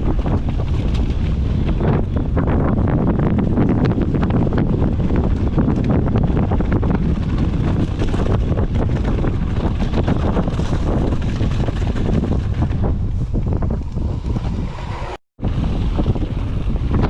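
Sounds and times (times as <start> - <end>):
bike rattling on rough trail: 0.0 - 17.0
wind buffeting microphone: 0.0 - 17.0.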